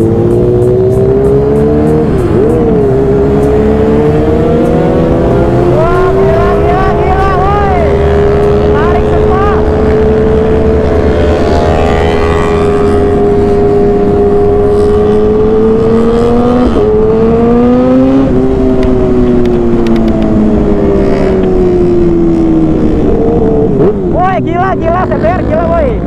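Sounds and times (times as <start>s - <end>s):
low wind rush: 0.0s - 26.0s
motorcycle engine running: 0.0s - 26.0s.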